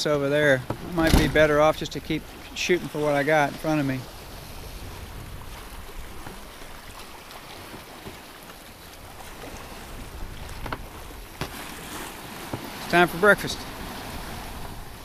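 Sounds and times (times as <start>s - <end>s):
sea rushing past a boat: 0.0s - 15.0s
wind rumbling on microphone: 0.6s - 7.4s, 8.9s - 12.8s, 13.6s - 15.0s.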